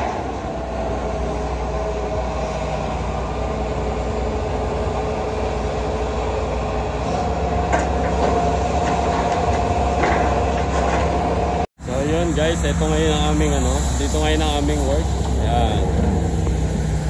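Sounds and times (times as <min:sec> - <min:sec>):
excavator diesel drone: 0:00.0 - 0:17.0
hydraulic whine: 0:00.0 - 0:17.0.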